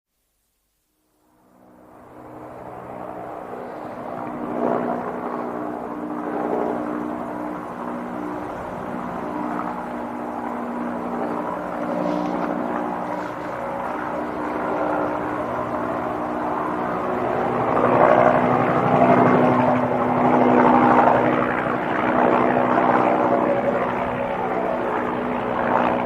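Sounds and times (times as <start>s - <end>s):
helicopter rotor and engine drone: 1.2s - 26.0s.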